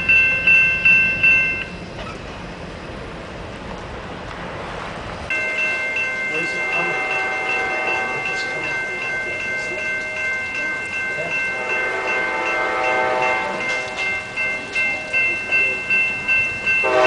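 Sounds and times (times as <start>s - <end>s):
railroad crossing bell ringing: 0.0s - 2.1s, 5.3s - 17.0s.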